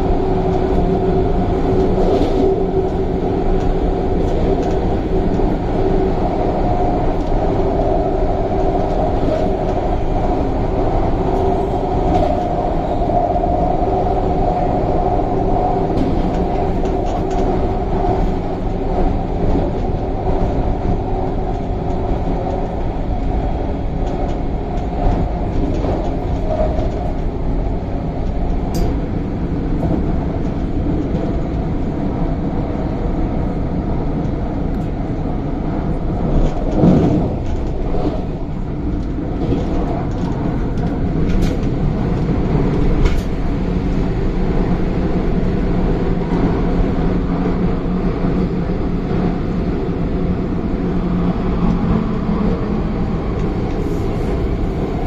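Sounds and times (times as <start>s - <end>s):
wheels rumbling on track: 0.0s - 55.0s.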